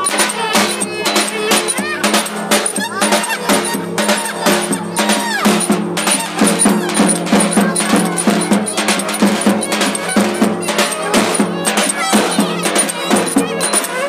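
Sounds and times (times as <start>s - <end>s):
live dance music with drums: 0.0s - 14.0s.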